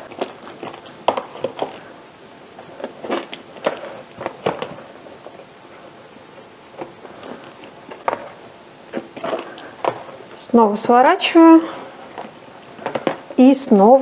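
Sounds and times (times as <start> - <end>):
wet dough squelching: 0.0 - 13.5.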